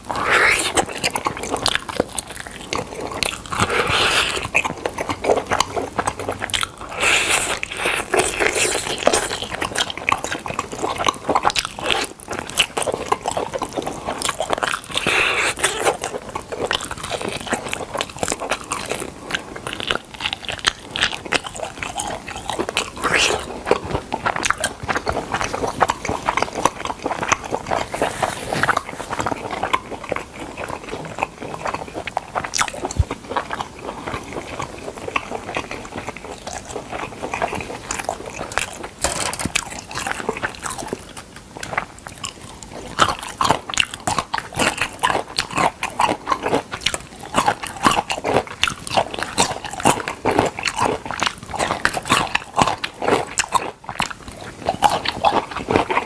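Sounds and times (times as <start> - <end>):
person chewing with wet smacking: 0.0 - 56.0.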